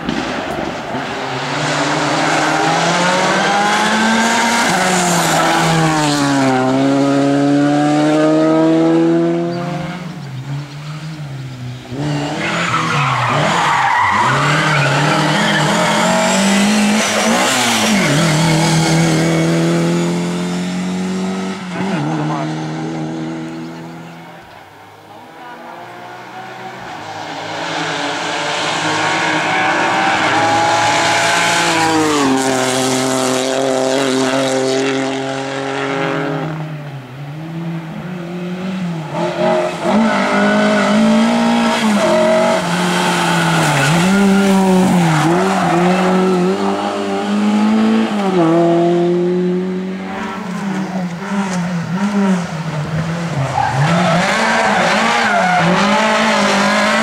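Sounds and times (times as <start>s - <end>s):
rally car engine revving: 0.0s - 24.4s, 25.1s - 57.0s.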